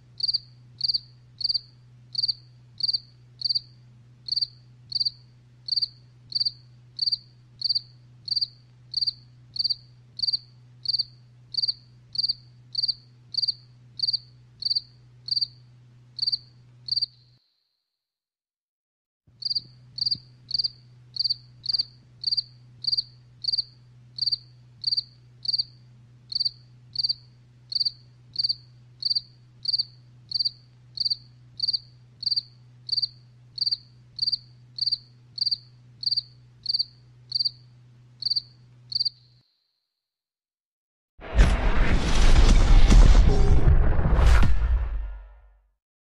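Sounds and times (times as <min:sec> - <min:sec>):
cricket chirping: 0:00.2 - 0:17.8, 0:19.4 - 0:39.8.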